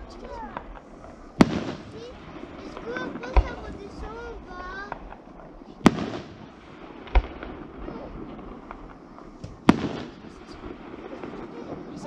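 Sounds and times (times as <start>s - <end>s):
firework pops: 0.0s - 11.6s
firework shells bursting: 0.0s - 12.0s.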